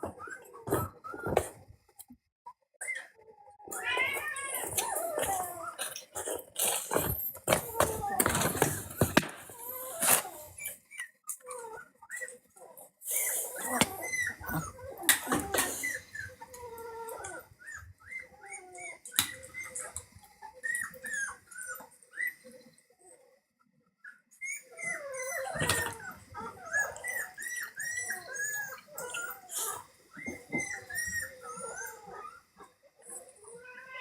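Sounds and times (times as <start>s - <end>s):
dog whimpering: 2.8s - 23.2s, 24.0s - 33.9s.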